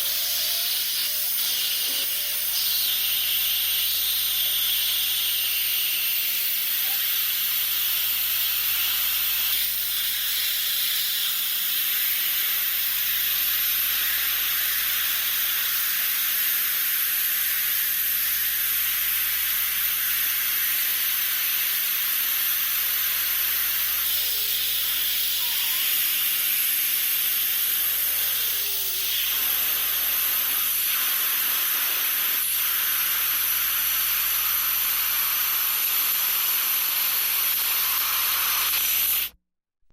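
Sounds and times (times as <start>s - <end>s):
pressurized air hissing: 0.0s - 17.9s, 19.8s - 39.4s.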